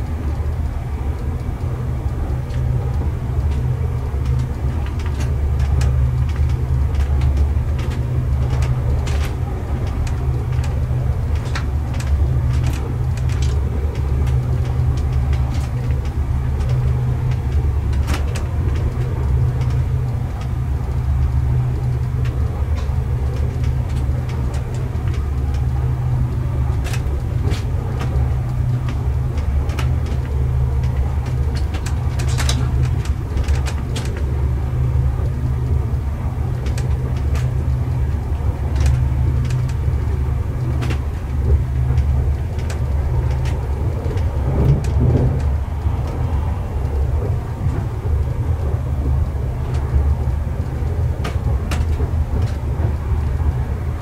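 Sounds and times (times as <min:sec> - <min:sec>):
passenger train rumble inside carriage: 0:00.0 - 0:54.0.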